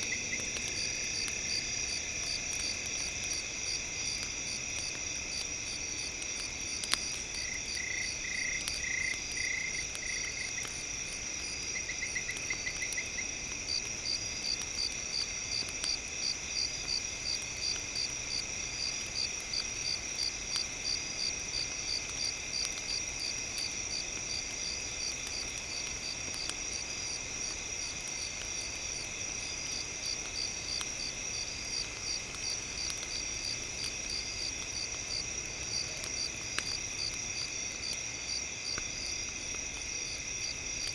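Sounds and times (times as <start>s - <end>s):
campfire crackling: 0.0s - 40.9s
crickets trilling: 0.0s - 40.9s.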